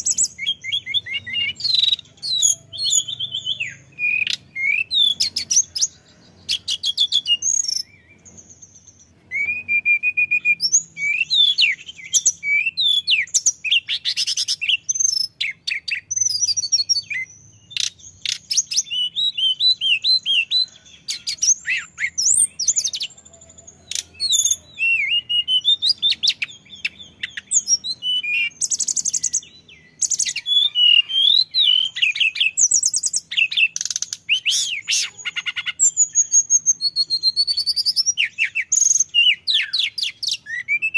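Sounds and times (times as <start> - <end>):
bird singing whistled phrases: 0.0 - 40.9.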